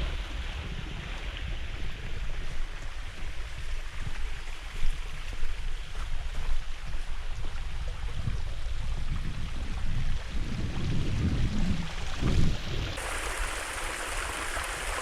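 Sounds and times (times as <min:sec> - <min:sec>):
creek water running: 0:00.0 - 0:15.0
wind buffeting microphone: 0:00.0 - 0:15.0.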